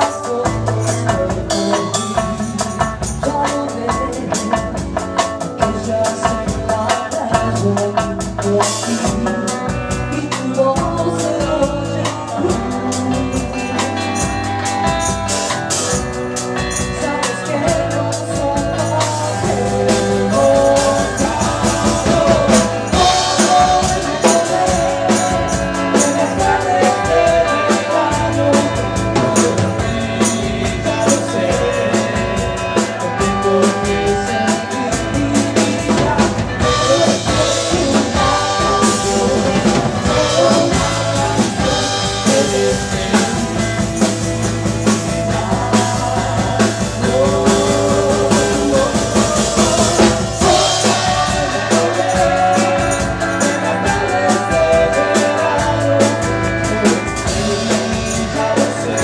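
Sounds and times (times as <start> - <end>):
woman singing: 0.0 - 15.0, 16.7 - 59.0
bass guitar: 0.0 - 59.0
drum kit: 0.0 - 59.0
electric guitar: 0.0 - 59.0.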